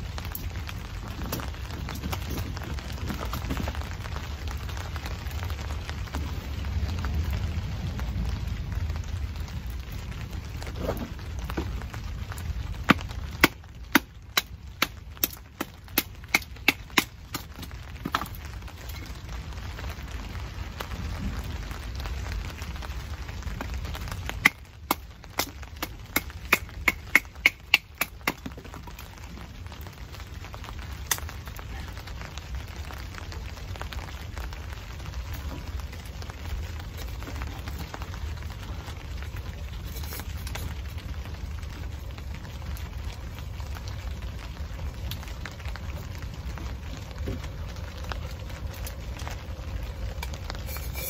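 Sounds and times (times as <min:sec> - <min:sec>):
rain on a tarp: 0:00.0 - 0:51.0.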